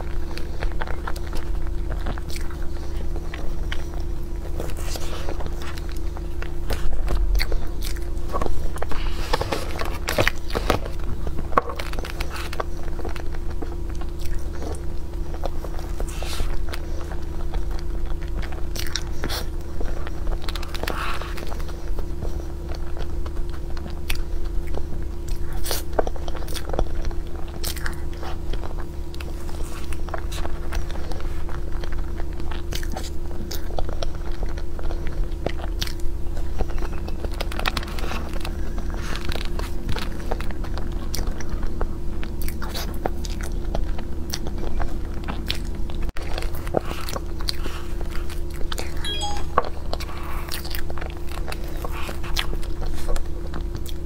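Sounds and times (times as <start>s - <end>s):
chewing and mouth clicks: 0.0s - 54.0s.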